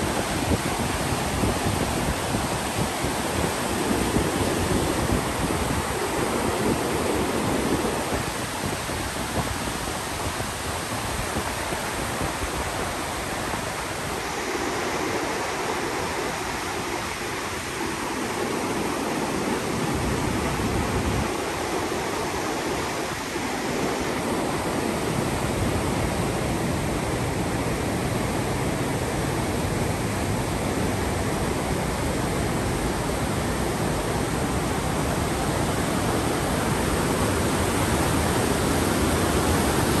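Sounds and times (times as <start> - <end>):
white-water rapids rushing: 0.0 - 40.0.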